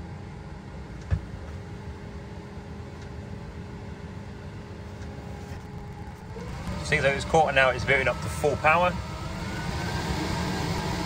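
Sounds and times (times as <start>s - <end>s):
air heater burner and fan rumble: 0.0s - 11.0s
faint steady hum: 0.0s - 11.0s.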